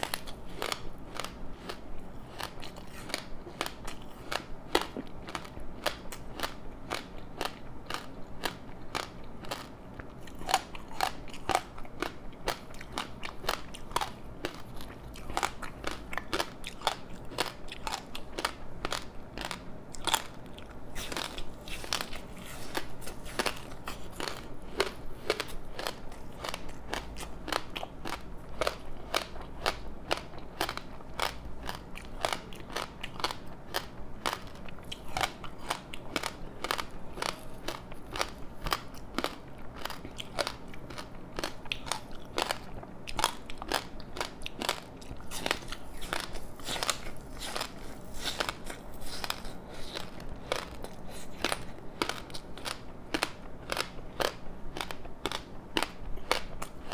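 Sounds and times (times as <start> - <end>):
crunchy snack chewing: 0.0 - 56.9.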